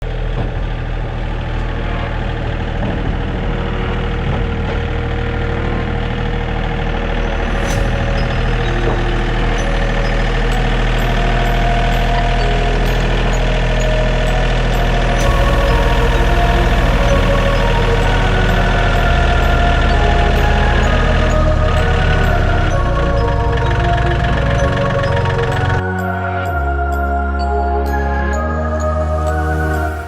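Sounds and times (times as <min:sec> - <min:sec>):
vehicle engine running: 0:00.0 - 0:25.8.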